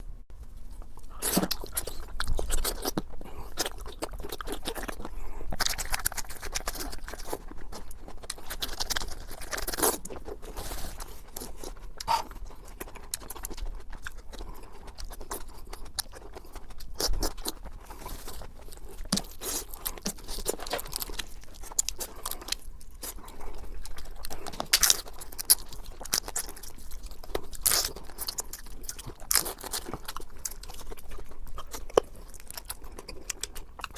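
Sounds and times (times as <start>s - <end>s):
person chewing seafood: 0.3s - 33.9s.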